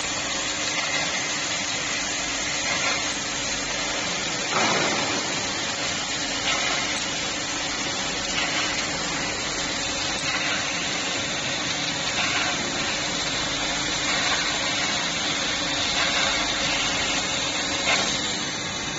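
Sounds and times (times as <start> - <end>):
laser cutting steel hiss: 0.0 - 18.9.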